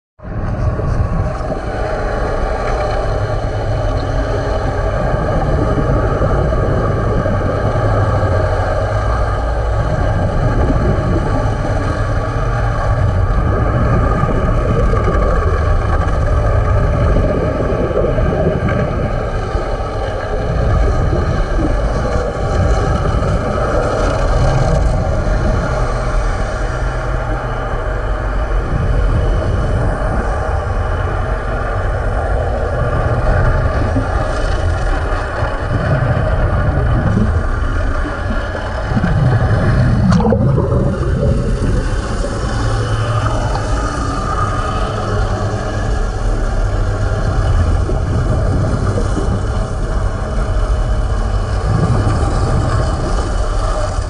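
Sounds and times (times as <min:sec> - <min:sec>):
underwater machinery drone: 0:00.2 - 0:54.0.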